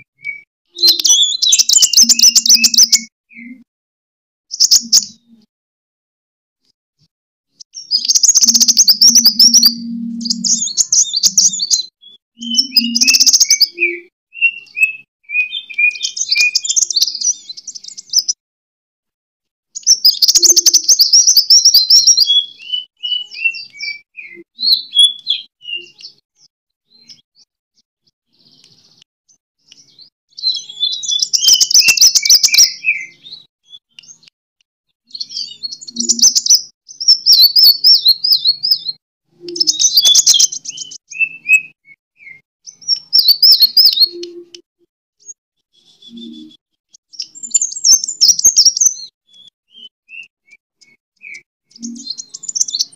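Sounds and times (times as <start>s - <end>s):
bird song with buzzy trills: 0.0s - 3.7s, 4.5s - 5.5s, 7.8s - 18.4s, 19.8s - 26.2s, 29.6s - 34.3s, 35.1s - 44.6s, 45.2s - 52.9s.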